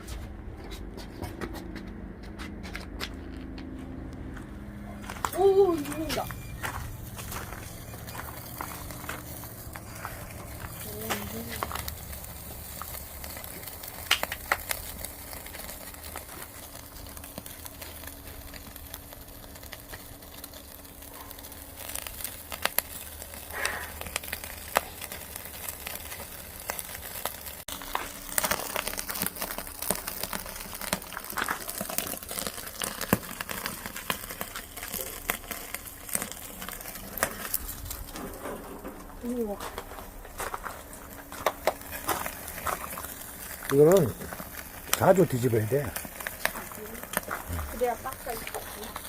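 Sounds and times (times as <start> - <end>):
firewood crackling and popping: 1.0 - 49.0
fish sizzling on a grill: 5.0 - 49.0.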